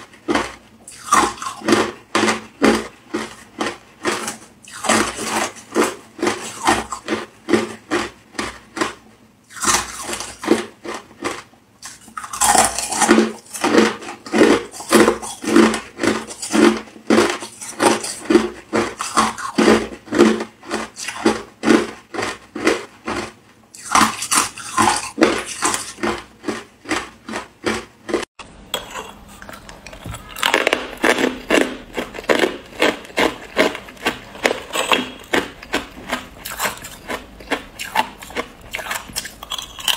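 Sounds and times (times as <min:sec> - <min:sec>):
person crunching ice: 0:00.3 - 0:08.1, 0:08.8 - 0:39.9.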